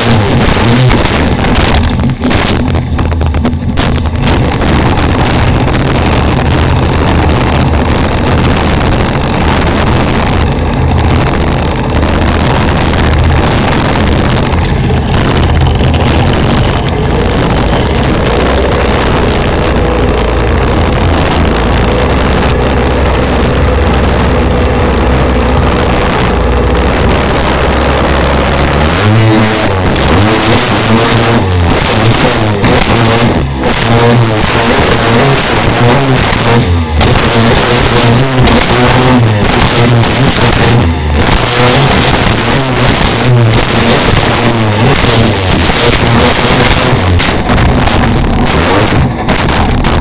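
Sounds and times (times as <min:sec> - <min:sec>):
watercraft engine running: 0:00.0 - 0:50.0.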